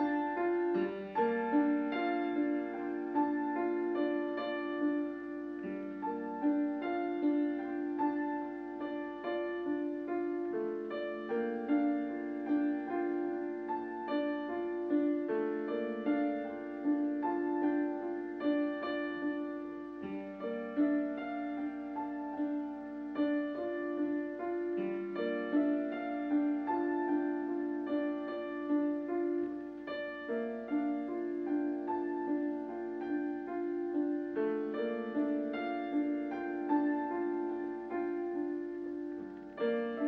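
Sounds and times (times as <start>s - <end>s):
gentle piano melody: 0.0s - 40.0s.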